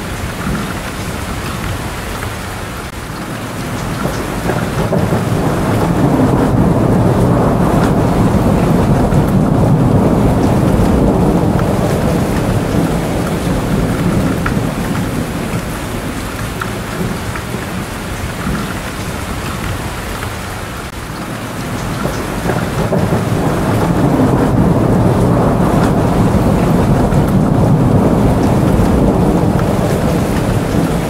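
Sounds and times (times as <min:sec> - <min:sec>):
rain falling: 0:00.0 - 0:31.0
rolling thunder: 0:00.0 - 0:31.0.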